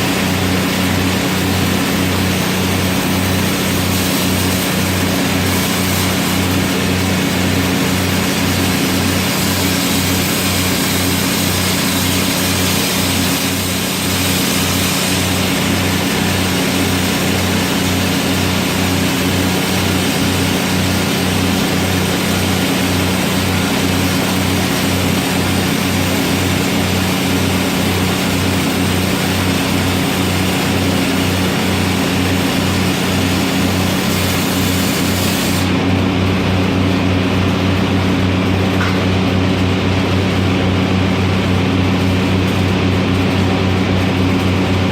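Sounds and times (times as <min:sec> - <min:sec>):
welding arc crackle and hiss: 0:00.0 - 0:44.9.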